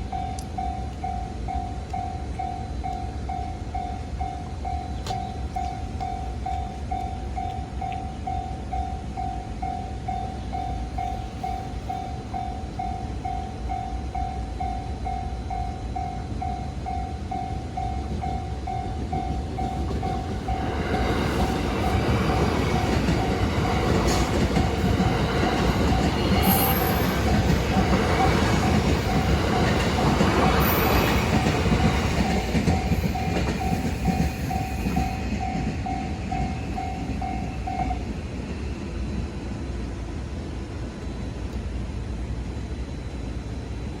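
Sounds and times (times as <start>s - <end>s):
crossing warning bell ringing: 0.0s - 38.3s
train wheels rumbling on rails: 0.0s - 44.0s.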